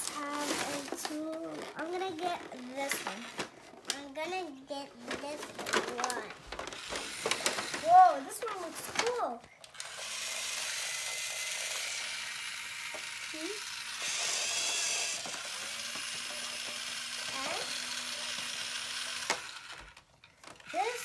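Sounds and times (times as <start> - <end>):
toy power tool whirring: 1.5 - 3.5, 5.1 - 21.0.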